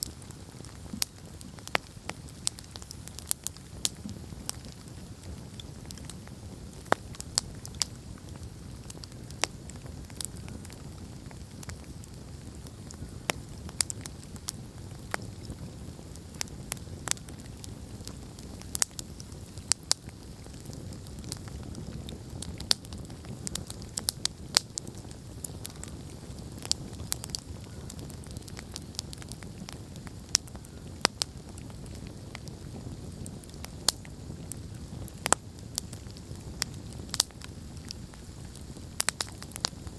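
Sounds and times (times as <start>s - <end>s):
campfire flames rushing: 0.0s - 39.9s
wood popping and crackling: 0.0s - 39.9s.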